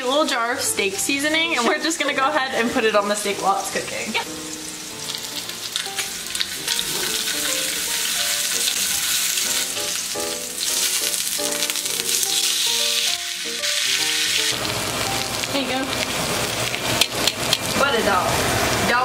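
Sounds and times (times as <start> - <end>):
light background melody: 0.0 - 18.3
steak sizzling in a pan: 0.2 - 19.0.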